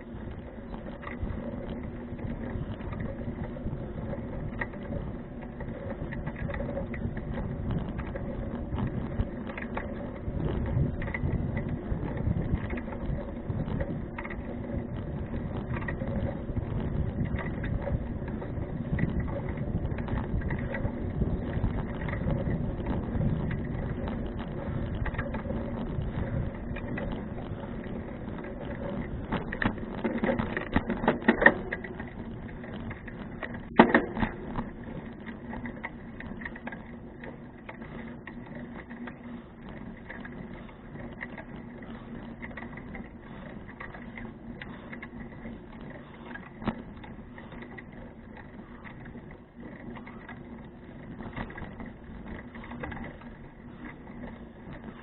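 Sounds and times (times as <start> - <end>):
bicycle drivetrain ticking and rattle: 0.0 - 55.0
bicycle knocks and rattles: 0.0 - 55.0.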